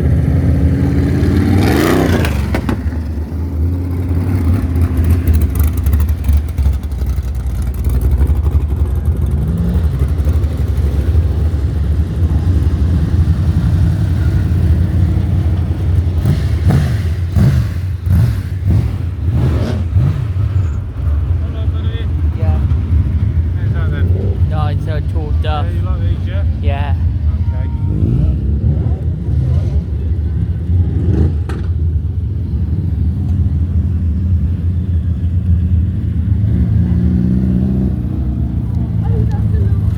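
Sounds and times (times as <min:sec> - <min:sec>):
engine revving: 0:00.0 - 0:39.9
racing car engines rumbling: 0:00.0 - 0:39.9.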